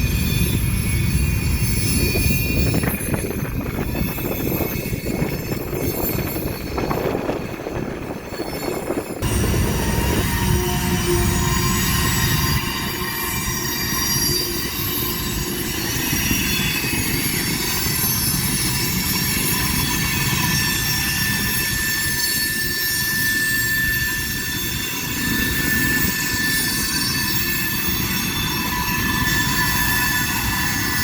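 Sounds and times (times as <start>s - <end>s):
train rumbling: 0.0s - 31.0s
train wheels squealing: 0.0s - 31.0s.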